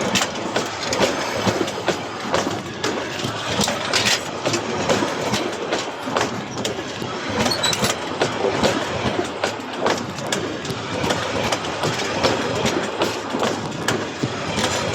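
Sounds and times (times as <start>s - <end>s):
train rolling rumble: 0.0s - 14.9s
train wheels clattering over points: 0.0s - 14.9s.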